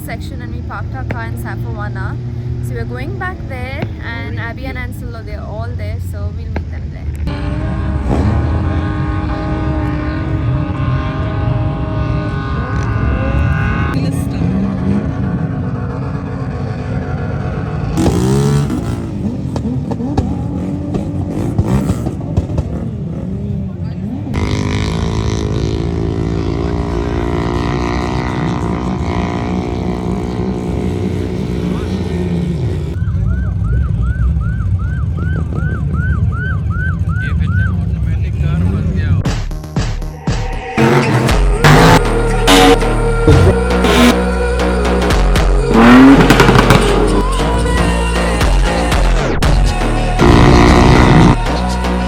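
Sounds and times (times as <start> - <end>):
vehicle engine at high revs: 0.0 - 39.3, 40.8 - 52.0.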